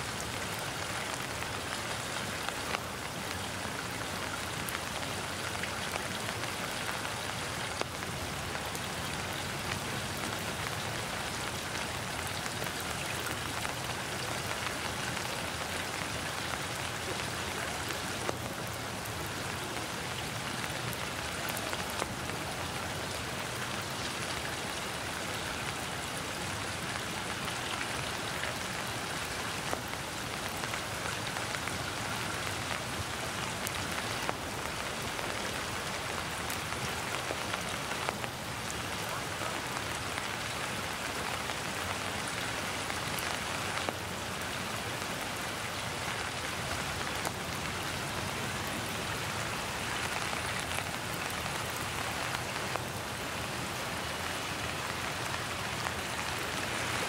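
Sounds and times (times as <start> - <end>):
rain falling on trees: 0.0 - 57.0.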